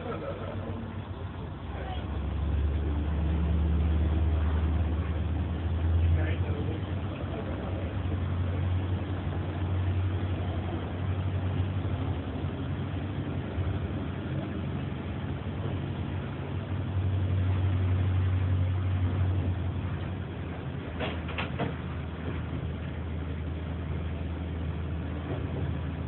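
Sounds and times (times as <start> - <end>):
train engine droning low: 0.0 - 26.0
train running noise: 0.0 - 26.0.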